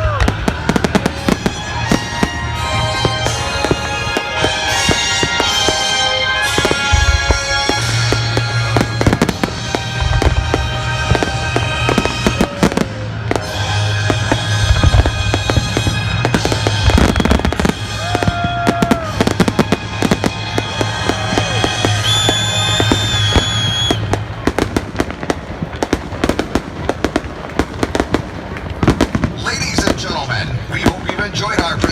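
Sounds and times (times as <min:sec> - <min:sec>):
fireworks bangs and crackles: 0:00.0 - 0:31.9.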